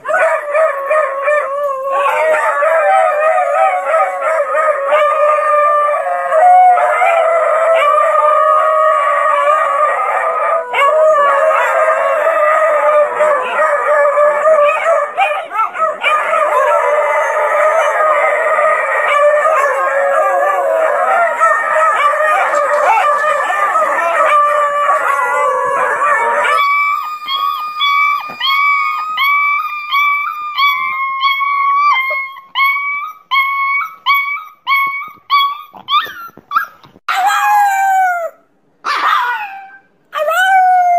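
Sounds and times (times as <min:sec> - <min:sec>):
hounds howling in chorus: 0:00.0 - 0:33.0.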